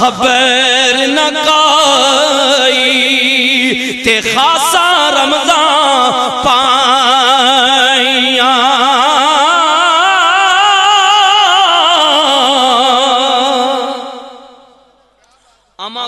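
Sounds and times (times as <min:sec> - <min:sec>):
man chanting with vibrato: 0:00.0 - 0:16.0.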